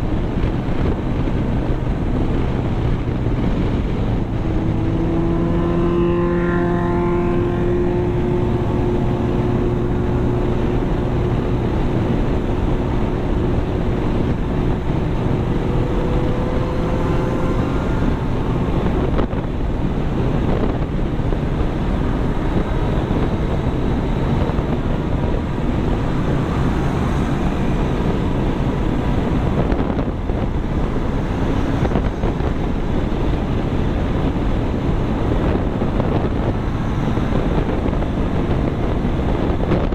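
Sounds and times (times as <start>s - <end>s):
vehicle road and wind noise: 0.0s - 39.9s
steady pitched tones: 1.7s - 39.9s.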